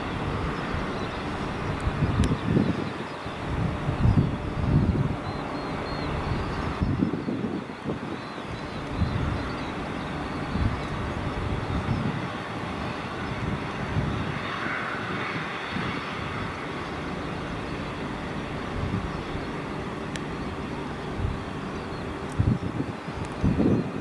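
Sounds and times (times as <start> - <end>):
jet engines whining: 0.0 - 24.0
wind on microphone: 0.0 - 24.0.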